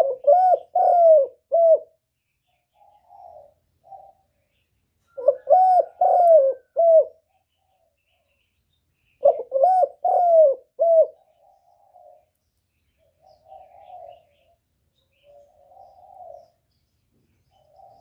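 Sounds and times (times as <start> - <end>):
dove cooing: 0.0 - 8.4, 9.1 - 12.3, 13.0 - 16.7, 17.4 - 18.0.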